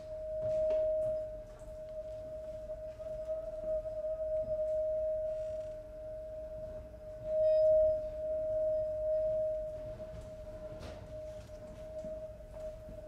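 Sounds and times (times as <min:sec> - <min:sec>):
sustained ringing bell tone: 0:00.0 - 0:13.0.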